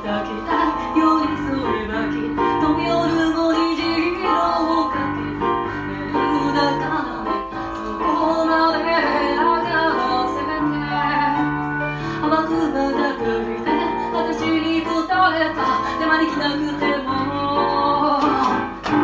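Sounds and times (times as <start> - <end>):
instrumental accompaniment with bass: 0.0 - 19.0
woman singing: 0.0 - 19.0.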